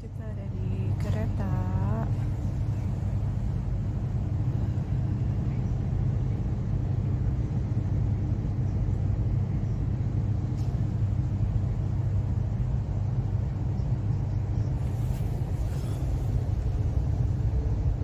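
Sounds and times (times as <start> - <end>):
faint steady hum: 0.0 - 18.0
train low rumble: 0.0 - 18.0.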